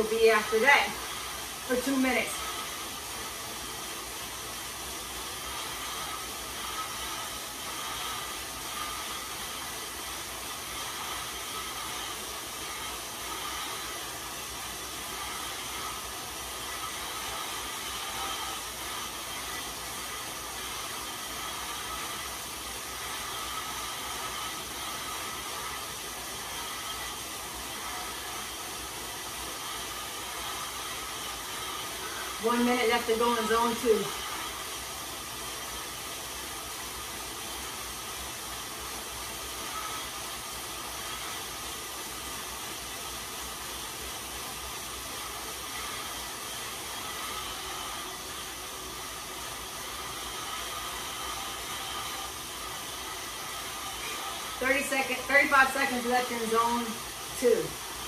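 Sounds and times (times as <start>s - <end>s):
bike tyres whirring on rollers: 0.0s - 58.0s.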